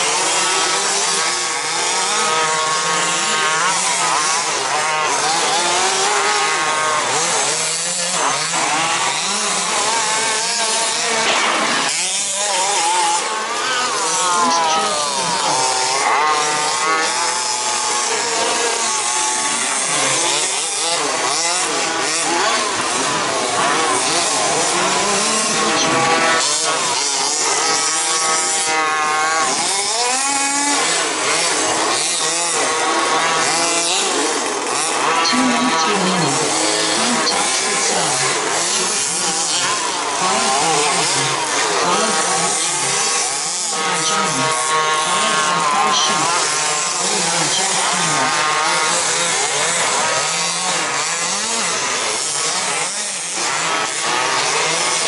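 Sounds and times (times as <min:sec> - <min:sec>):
toy car motors whining: 0:00.0 - 0:55.0.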